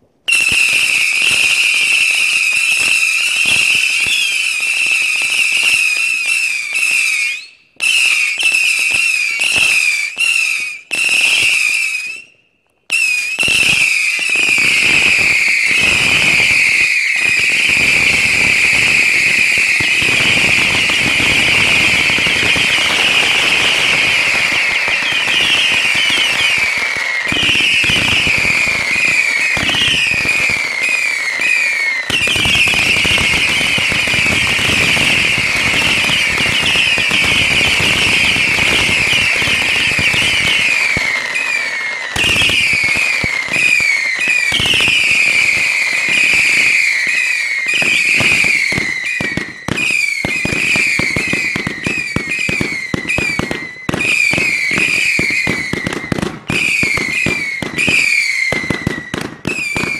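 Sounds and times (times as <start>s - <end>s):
fireworks crackling and popping: 0.0s - 59.9s
firework fountains whistling: 0.3s - 59.9s.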